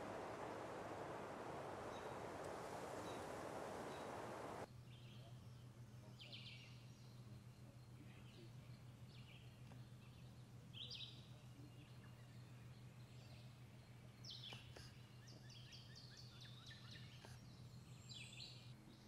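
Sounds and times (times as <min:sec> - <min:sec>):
low steady hum: 0:00.0 - 0:19.0
songbird singing: 0:00.0 - 0:19.0.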